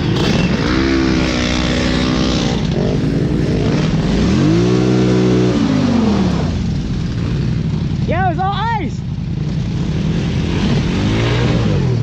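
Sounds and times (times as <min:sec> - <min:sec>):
dirt bike engine revving: 0:00.0 - 0:08.2, 0:09.3 - 0:12.0.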